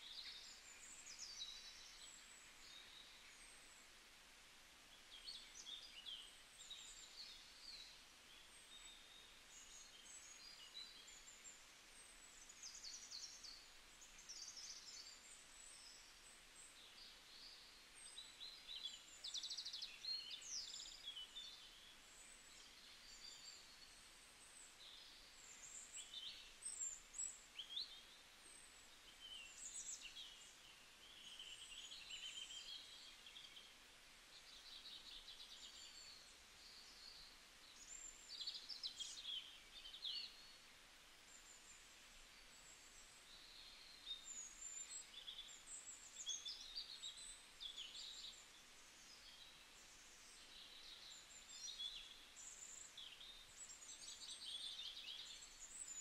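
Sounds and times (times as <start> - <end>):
soft hiss: 0.0 - 56.0.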